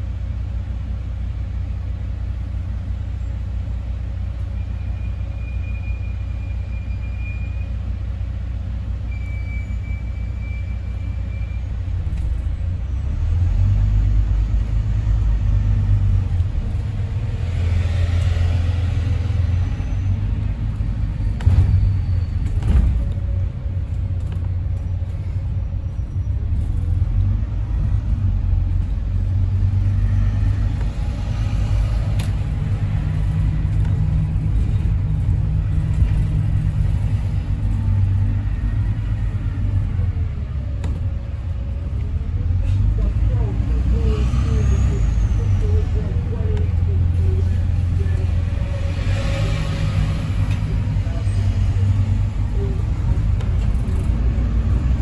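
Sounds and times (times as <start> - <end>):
diesel bus engine rumbling: 0.0 - 55.0.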